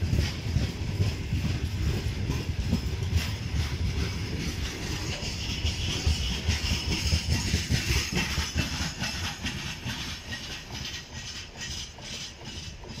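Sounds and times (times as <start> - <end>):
train wheels clattering over rails: 0.0 - 13.0.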